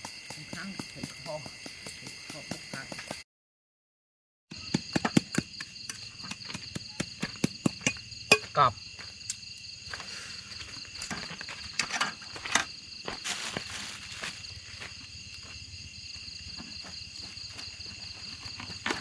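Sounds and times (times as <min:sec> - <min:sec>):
crickets trilling: 0:00.0 - 0:03.2, 0:04.5 - 0:19.0.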